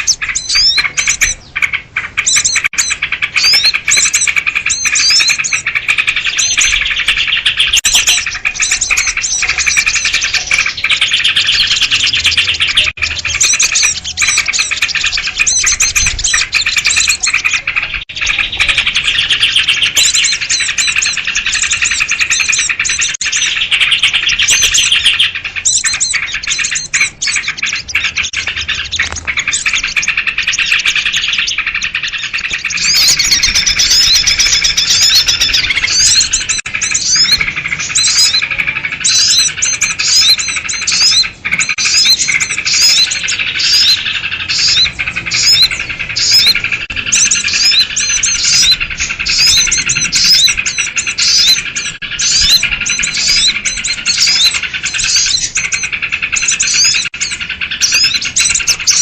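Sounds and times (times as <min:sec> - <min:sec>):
flock of birds chattering: 0:00.0 - 0:59.0
sharp bird chirps: 0:00.0 - 0:59.0.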